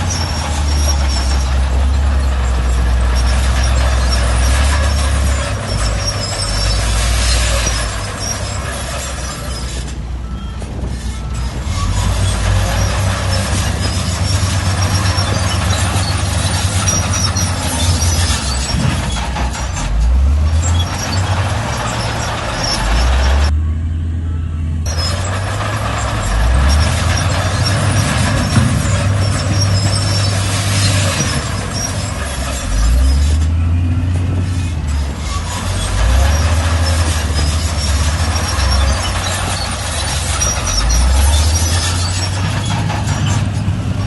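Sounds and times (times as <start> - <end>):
rough grinding noise: 0.0 - 23.5, 24.9 - 44.0
diesel engine under load: 0.0 - 44.0.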